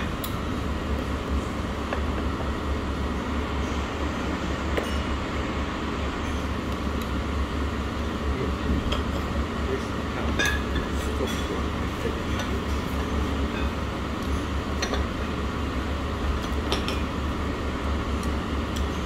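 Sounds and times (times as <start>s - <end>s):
dining room hum: 0.0s - 19.0s.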